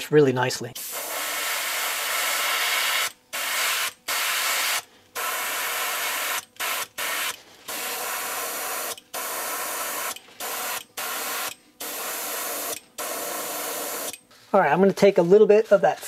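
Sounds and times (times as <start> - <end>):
airbrush air hiss: 0.8 - 15.8.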